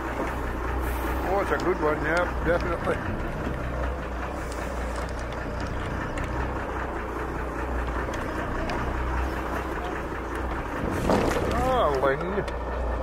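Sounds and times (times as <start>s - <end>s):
boat engine humming: 0.0s - 13.0s
sea: 0.0s - 13.0s.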